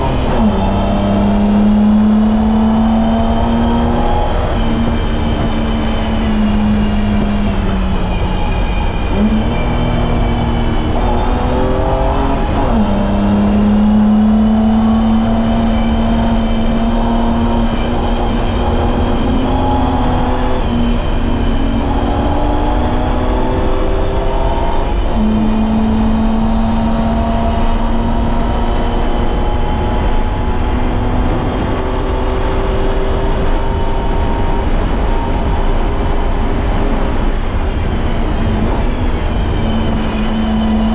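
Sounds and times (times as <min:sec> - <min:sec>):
car engine running hard: 0:00.0 - 0:40.9
road and tyre noise: 0:00.0 - 0:40.9.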